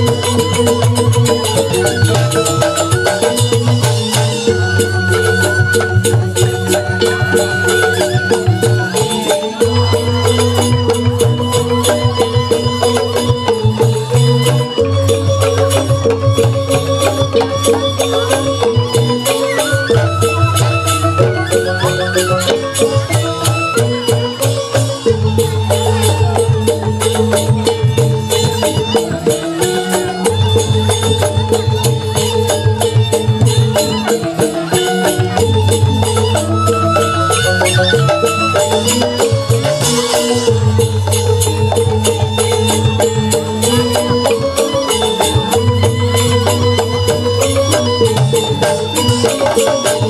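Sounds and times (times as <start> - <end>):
bamboo flutes: 0.0 - 50.0
bamboo xylophones struck with mallets: 0.0 - 50.0
hand drums: 0.0 - 50.0.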